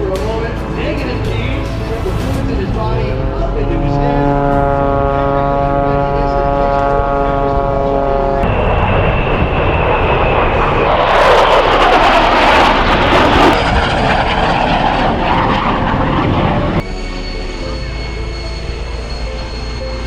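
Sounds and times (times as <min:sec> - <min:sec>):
airplane engine drone: 0:00.0 - 0:20.0
rushing airplane engine noise: 0:00.0 - 0:20.0.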